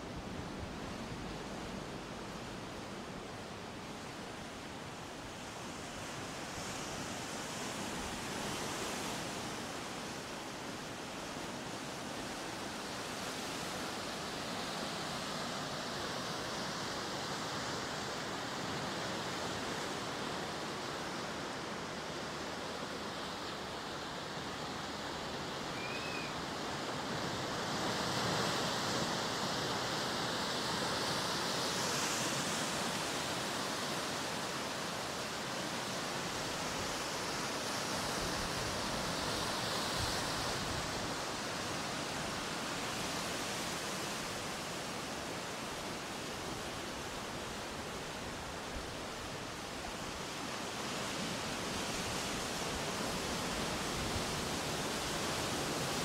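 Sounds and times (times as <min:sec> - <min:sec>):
ocean surf on shore: 0:00.0 - 0:56.0.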